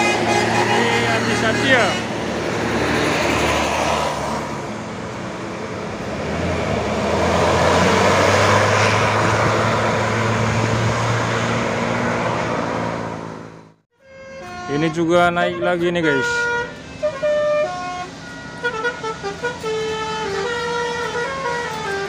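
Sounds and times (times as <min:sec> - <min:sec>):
bus diesel engine under load: 0:00.0 - 0:22.0.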